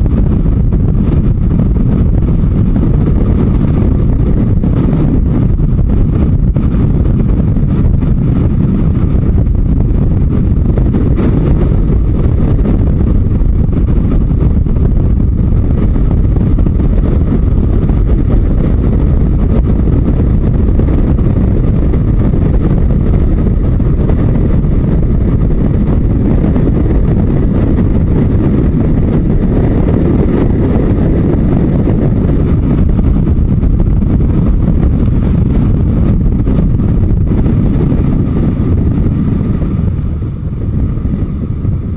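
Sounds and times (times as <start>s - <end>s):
motorcycle engine running: 0.0s - 41.9s
wind rushing on microphone: 0.0s - 41.9s.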